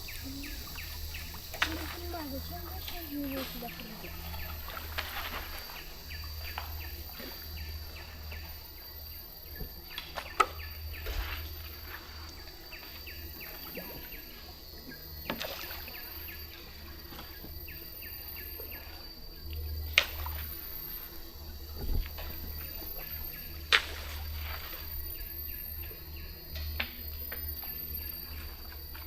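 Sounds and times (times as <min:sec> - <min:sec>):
insect drone: 0:00.0 - 0:29.0
low steady hum: 0:00.0 - 0:29.0.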